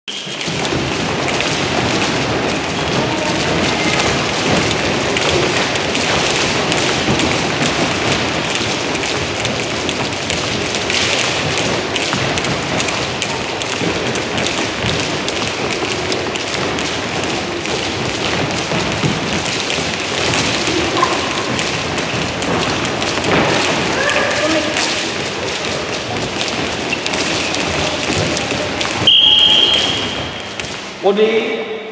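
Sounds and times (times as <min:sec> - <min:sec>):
skipping ropes slapping floor: 0:00.1 - 0:31.1
feet landing: 0:00.2 - 0:31.0.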